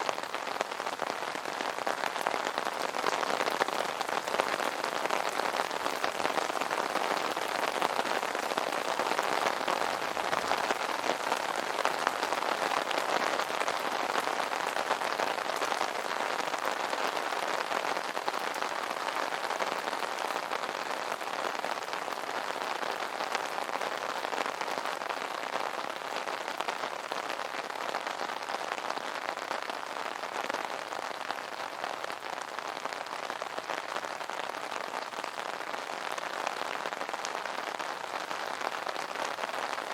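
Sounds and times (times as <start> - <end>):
rain drumming on umbrella: 0.0 - 39.9.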